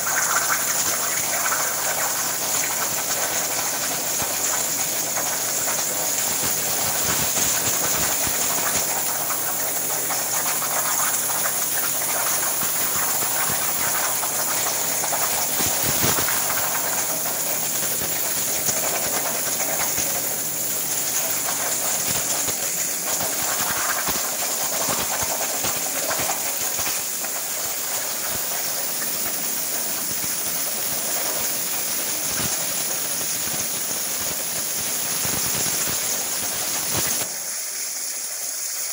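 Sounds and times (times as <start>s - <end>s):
plasma torch hissing: 0.0s - 38.9s.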